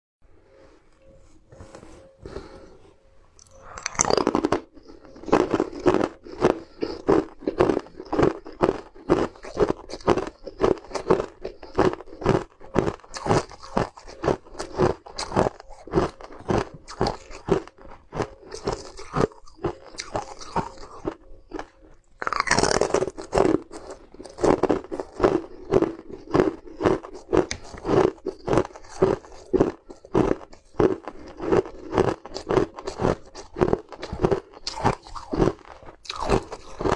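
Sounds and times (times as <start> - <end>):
crunchy chewing: 3.4 - 36.9
ice crunching bite: 3.4 - 36.9.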